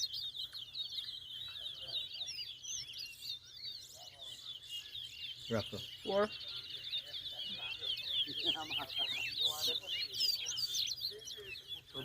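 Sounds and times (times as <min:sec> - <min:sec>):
finch singing: 0:00.0 - 0:12.0.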